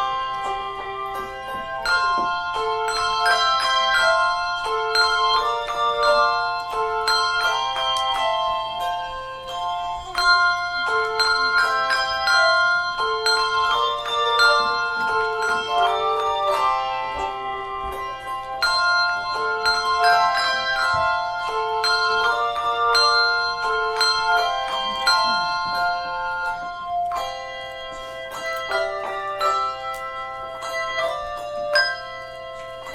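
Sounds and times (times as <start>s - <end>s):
handbell choir playing: 0.0s - 32.9s.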